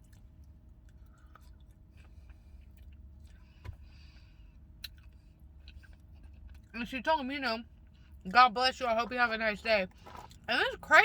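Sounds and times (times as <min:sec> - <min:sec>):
faint low car cabin rumble: 0:00.0 - 0:11.0.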